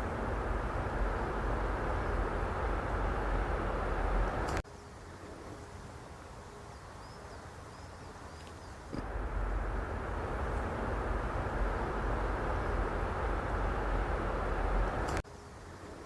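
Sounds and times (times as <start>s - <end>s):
steady noise haze: 0.0s - 16.0s.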